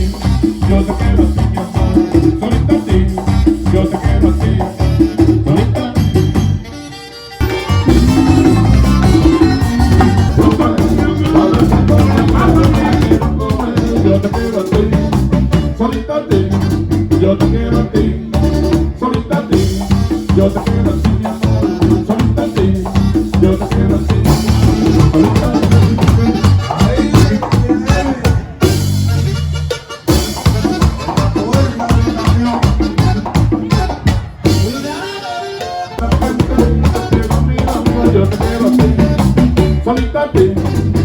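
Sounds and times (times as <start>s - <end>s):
drum kit and percussion: 0.0s - 41.0s
latin tropical band music: 0.0s - 41.0s.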